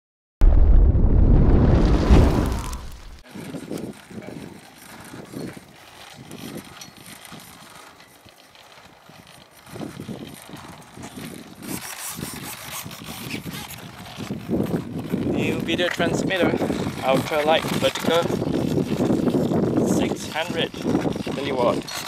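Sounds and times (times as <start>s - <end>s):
outdoor background noise: 0.5s - 22.0s.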